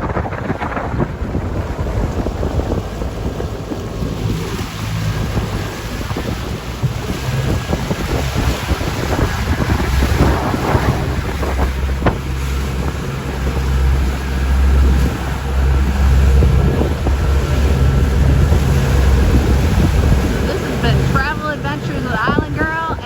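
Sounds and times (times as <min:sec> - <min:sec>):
sea water washing: 0:00.0 - 0:23.0
wind buffeting microphone: 0:00.0 - 0:23.0.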